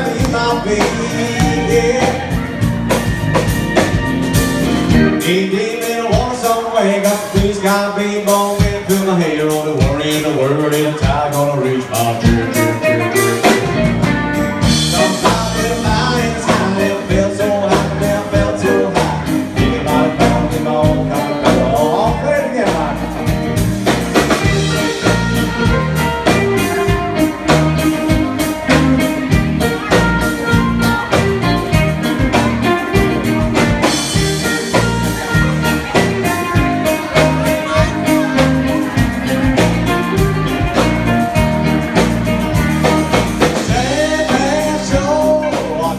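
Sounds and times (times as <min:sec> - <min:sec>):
person singing: 0:00.0 - 0:03.3, 0:04.9 - 0:13.9, 0:14.6 - 0:23.3, 0:24.4 - 0:45.9
drum beat: 0:00.0 - 0:05.2, 0:12.3 - 0:45.9
electric guitars: 0:00.0 - 0:45.9
live band playing: 0:00.0 - 0:45.9.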